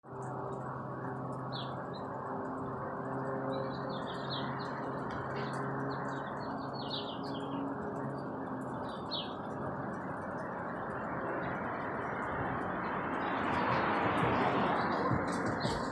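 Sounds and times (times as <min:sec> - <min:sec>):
airplane drone overhead: 0:00.0 - 0:15.9
small birds chirping: 0:00.1 - 0:15.9.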